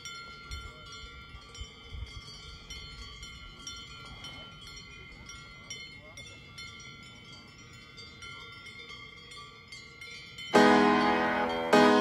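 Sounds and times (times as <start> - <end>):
metallic bells ringing: 0.0 - 12.0.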